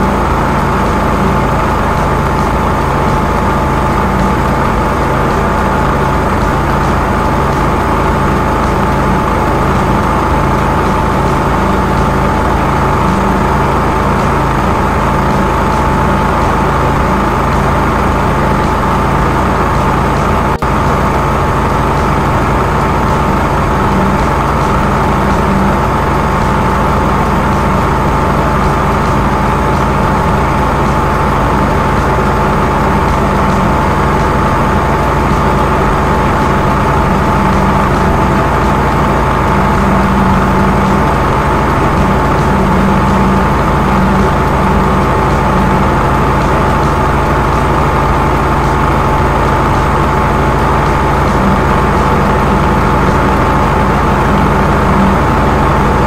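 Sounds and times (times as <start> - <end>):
pump engine droning with whine: 0.0 - 56.0.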